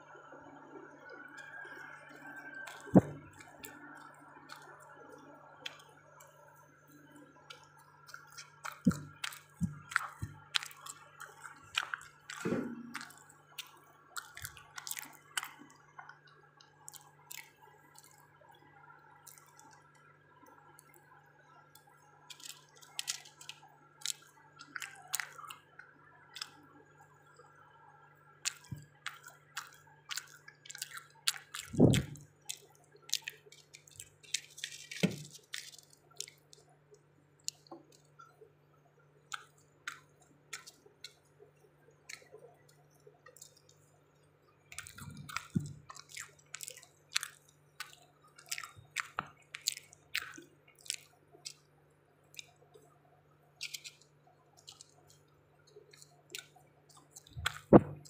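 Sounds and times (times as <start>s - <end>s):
faint steady hum: 0.0s - 58.0s
person chewing cake: 1.2s - 27.7s, 28.3s - 58.0s.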